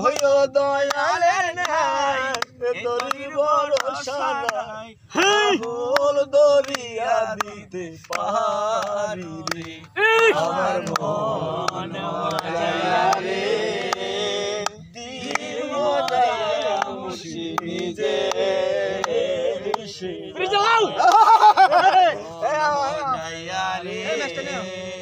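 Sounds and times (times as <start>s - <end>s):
hand claps: 0.0s - 20.0s, 21.0s - 22.0s
men singing folk song a cappella: 0.0s - 25.0s.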